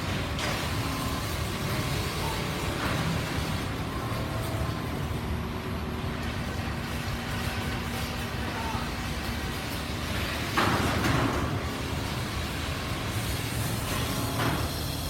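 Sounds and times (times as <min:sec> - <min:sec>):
quilting machines running: 0:00.0 - 0:15.0.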